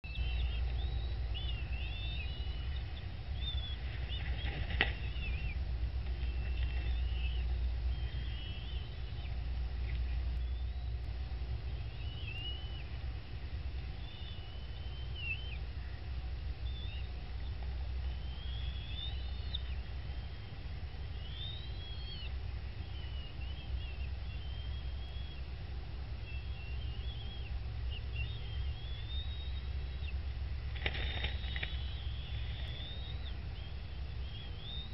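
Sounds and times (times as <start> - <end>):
bird chirps and twittering: 0.0 - 11.1, 11.7 - 13.0, 13.9 - 16.0, 16.6 - 25.5, 26.2 - 30.2, 30.8 - 34.9
steady low rumble: 0.0 - 34.9.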